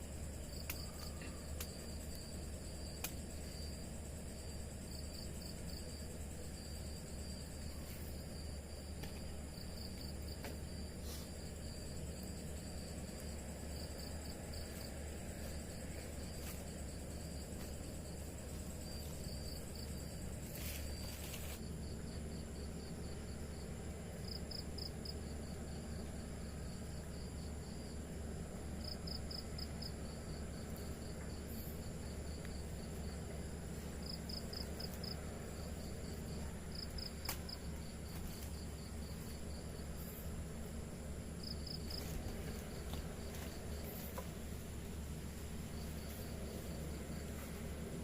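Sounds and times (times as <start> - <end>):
insect chirps: 0.0 - 48.0
insect high-pitched trill: 0.0 - 48.0.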